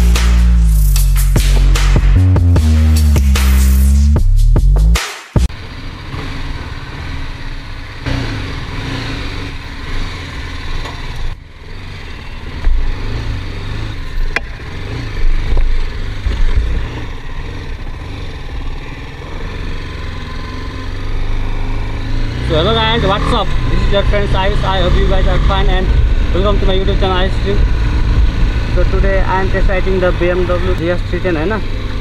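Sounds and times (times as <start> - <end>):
single-cylinder engine running: 5.5 - 32.0.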